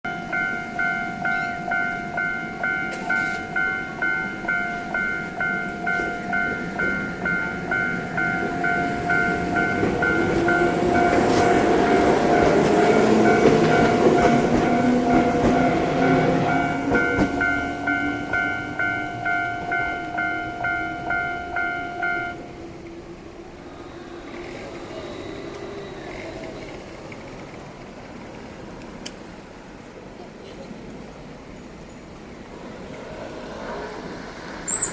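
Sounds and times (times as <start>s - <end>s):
train rumble and wheel noise: 0.1s - 34.9s.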